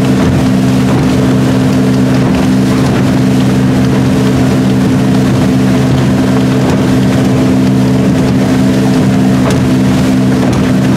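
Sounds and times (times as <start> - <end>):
motorboat engine running: 0.0 - 10.9
rush of wind and water: 0.0 - 10.9.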